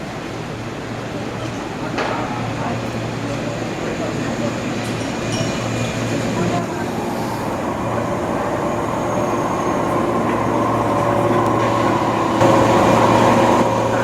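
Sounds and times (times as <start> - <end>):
train hum: 0.0 - 14.0
train rumbling on rails: 0.0 - 14.0.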